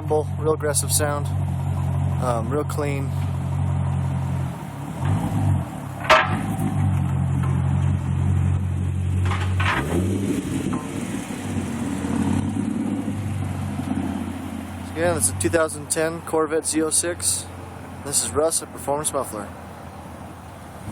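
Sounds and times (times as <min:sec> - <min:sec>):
car engine idling: 0:00.0 - 0:20.9
engine throttle blips: 0:00.0 - 0:20.9.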